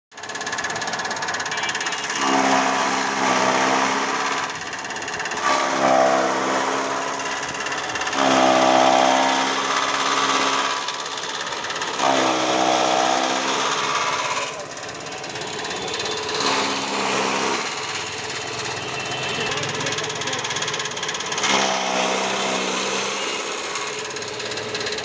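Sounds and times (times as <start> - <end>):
chaff cutter chopping straw: 0.1 - 25.0.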